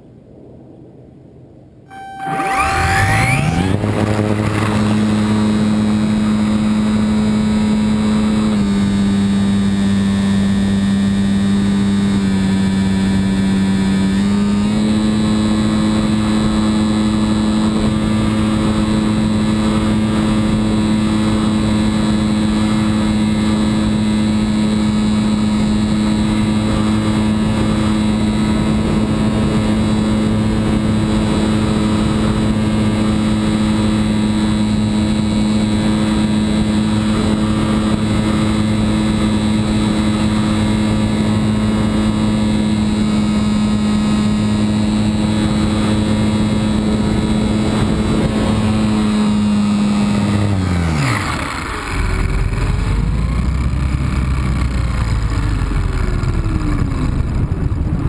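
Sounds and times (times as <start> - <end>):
model airplane propeller humming: 1.9 - 58.0.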